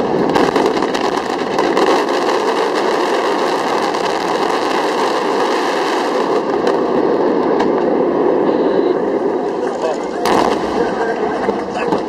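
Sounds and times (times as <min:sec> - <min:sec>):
dense fireworks crackling: 0:00.0 - 0:12.0.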